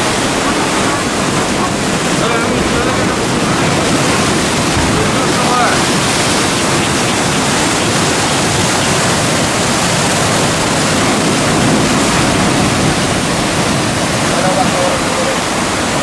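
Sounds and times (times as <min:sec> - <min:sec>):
surf breaking over rocks: 0:00.0 - 0:16.0.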